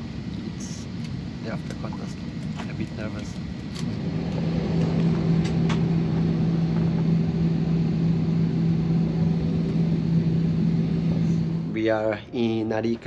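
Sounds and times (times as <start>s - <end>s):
low engine hum: 2.2s - 13.0s.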